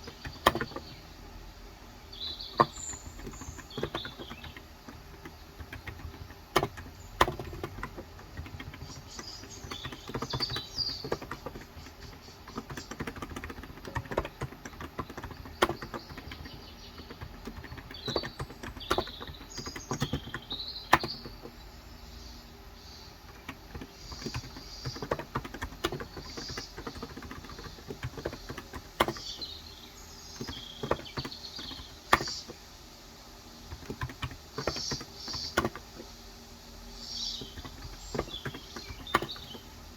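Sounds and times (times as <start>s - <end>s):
keyboard typing: 0.0s - 1.0s, 2.2s - 21.6s, 22.9s - 32.6s, 33.6s - 36.1s, 37.1s - 39.8s
birds chirping: 0.0s - 39.9s.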